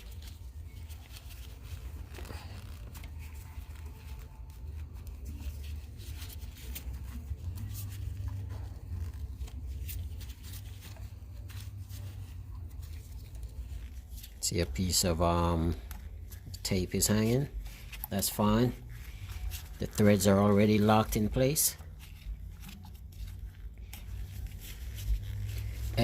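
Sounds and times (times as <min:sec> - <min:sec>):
cloth rag rubbing: 0:00.0 - 0:26.0.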